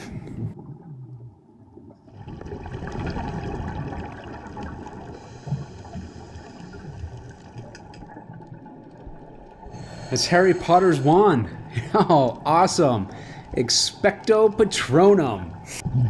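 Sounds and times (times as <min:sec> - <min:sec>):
underwater bubbles rushing: 0:00.0 - 0:16.0.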